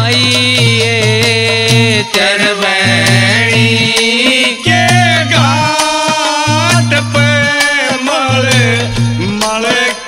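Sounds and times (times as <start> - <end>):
hand drum beating: 0.0 - 10.0.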